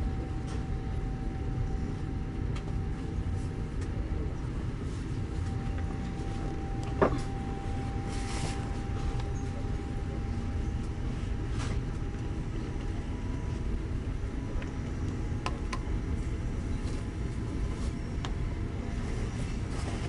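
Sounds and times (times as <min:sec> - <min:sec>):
train rumbling from inside: 0:00.0 - 0:20.0.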